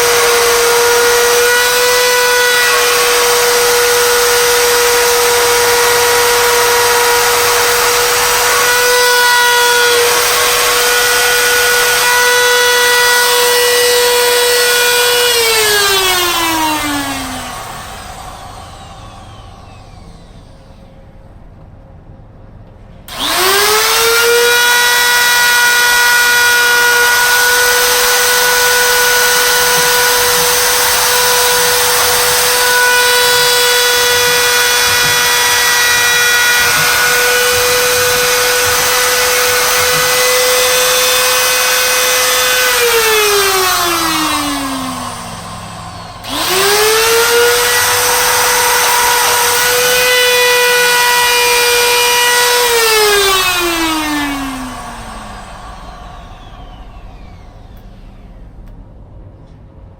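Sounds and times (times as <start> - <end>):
rotary tool whining cutting brick: 0.0 - 21.0, 23.1 - 58.7.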